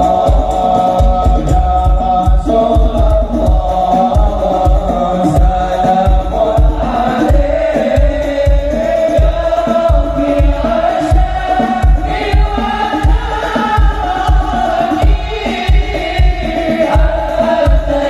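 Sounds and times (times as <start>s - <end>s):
men singing devotional chant: 0.0s - 18.0s
steady drum beat: 0.0s - 18.0s.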